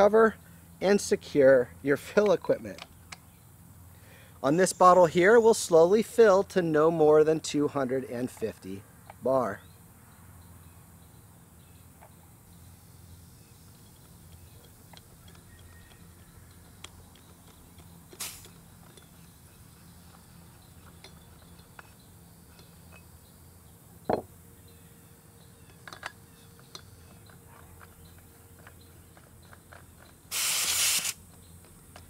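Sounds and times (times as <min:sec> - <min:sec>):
faint steady background noise: 0:00.0 - 0:32.0.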